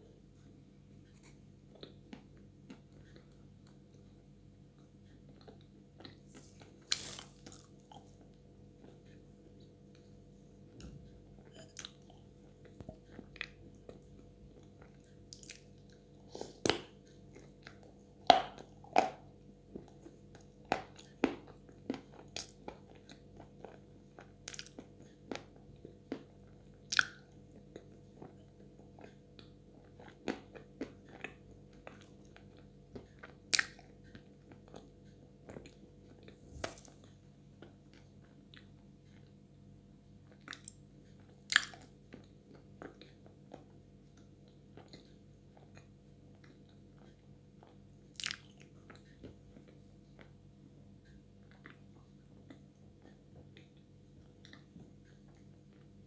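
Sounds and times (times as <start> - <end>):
person chewing wet clay: 0.4 - 56.0.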